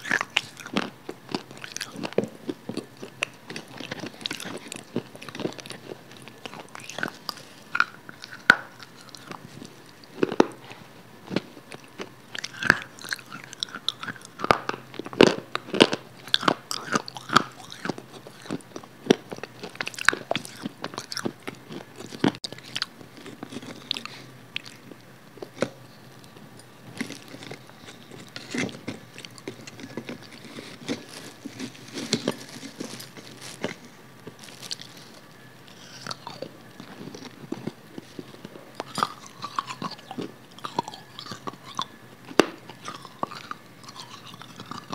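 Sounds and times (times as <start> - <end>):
biting and chewing food: 0.0 - 44.9.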